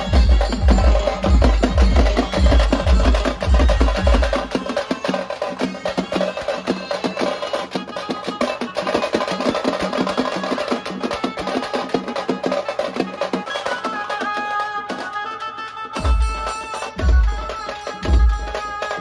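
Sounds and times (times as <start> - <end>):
fast drum strikes: 0.0 - 15.2, 16.0 - 19.0.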